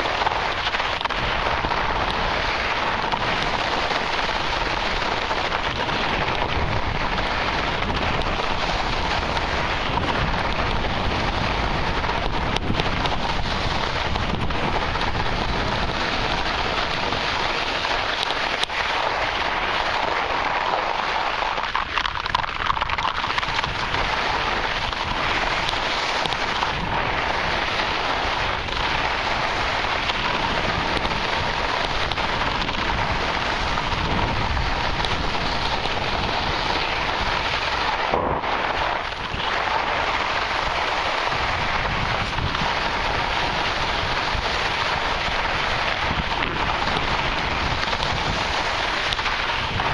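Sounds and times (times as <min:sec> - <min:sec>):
skis hissing and scraping on snow: 0:00.0 - 0:49.9
wind rushing over microphone: 0:00.0 - 0:49.9.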